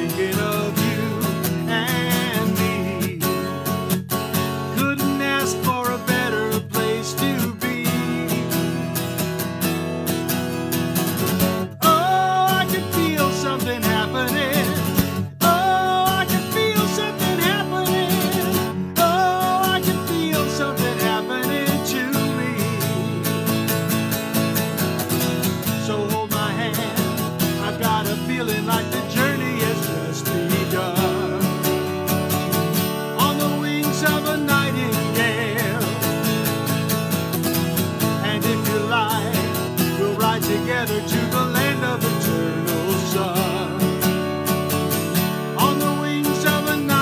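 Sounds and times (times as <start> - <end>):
man singing: 0.0 - 3.7, 4.6 - 8.9, 11.6 - 24.0, 25.1 - 36.7, 37.8 - 47.0
strummed acoustic guitar: 0.0 - 47.0.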